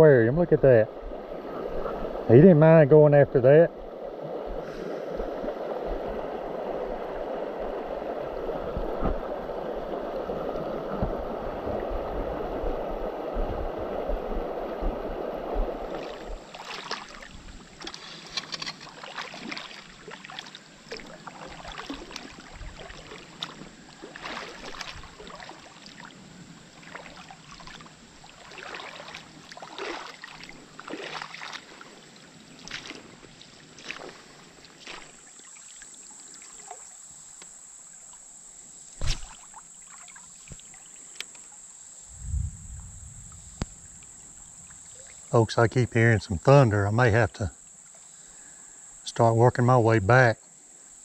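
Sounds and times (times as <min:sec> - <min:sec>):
creek water running: 0:00.0 - 0:51.0.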